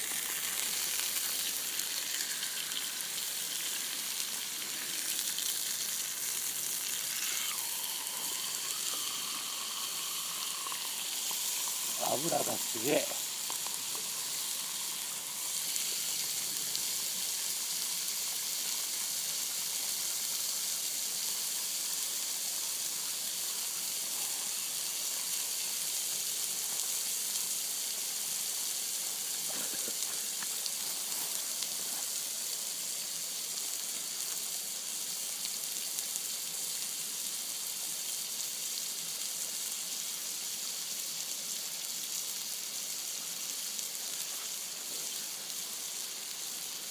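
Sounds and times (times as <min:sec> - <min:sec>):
meat sizzling in hot oil: 0:00.0 - 0:46.9.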